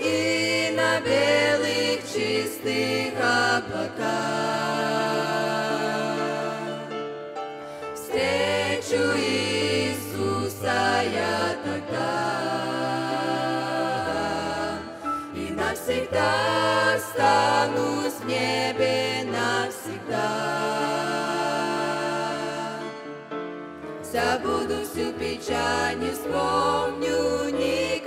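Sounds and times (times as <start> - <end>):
group singing in harmony: 0.0 - 28.0.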